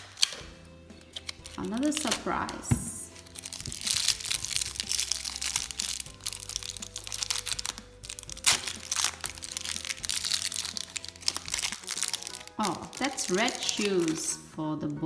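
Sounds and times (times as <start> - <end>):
plastic wrapper crinkling: 0.0 - 14.5
background music with held notes: 0.0 - 15.0.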